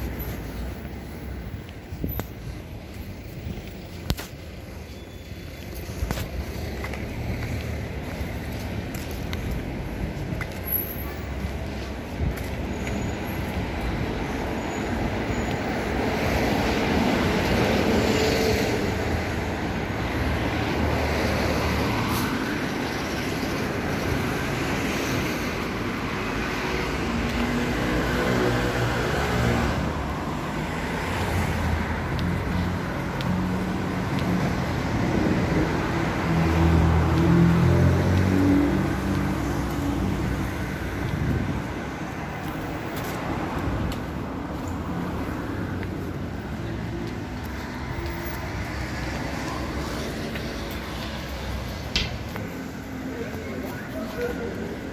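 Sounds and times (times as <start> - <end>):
cars driving past: 6.0 - 54.9.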